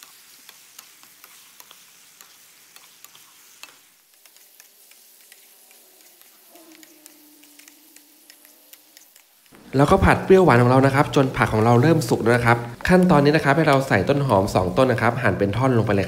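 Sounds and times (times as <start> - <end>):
spatula scraping a pan: 0.0 - 15.1
food sizzling in a pan: 0.0 - 16.0.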